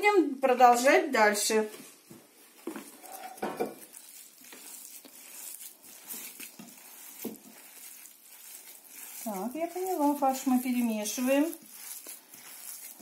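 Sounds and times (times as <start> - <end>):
hand mixing minced meat squelches: 0.0 - 13.0.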